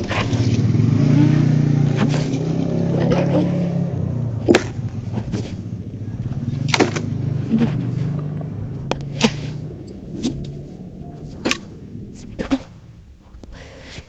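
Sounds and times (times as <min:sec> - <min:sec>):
low motor-like hum: 0:00.0 - 0:14.0.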